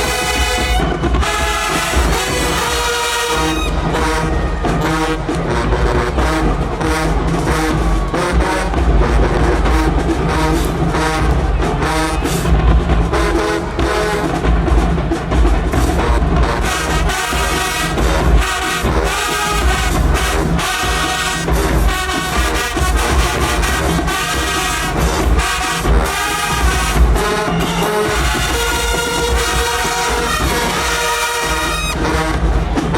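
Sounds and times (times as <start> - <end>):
bass drum beat: 0.0 - 32.9
marching band playing: 0.0 - 32.9.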